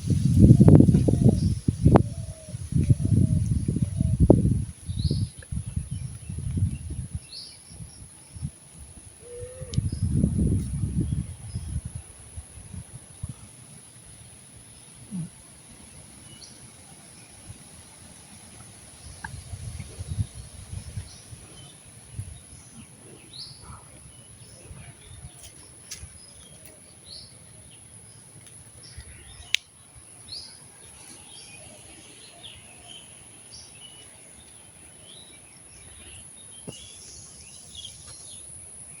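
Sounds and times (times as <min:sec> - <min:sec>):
insect drone: 0:06.9 - 0:39.0.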